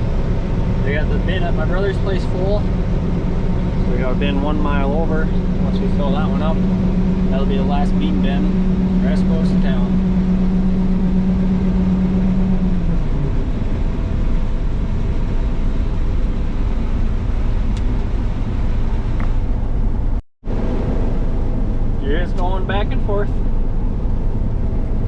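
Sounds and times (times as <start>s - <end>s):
combine harvester drone: 0.0s - 25.0s
strong low hum: 0.0s - 25.0s.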